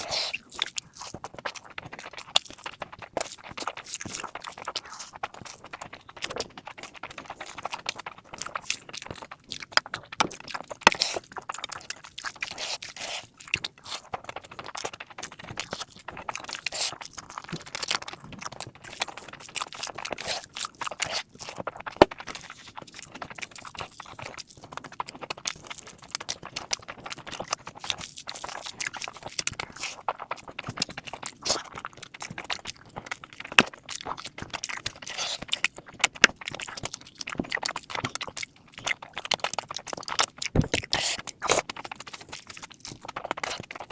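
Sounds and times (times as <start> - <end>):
wet chewing: 0.0 - 43.9.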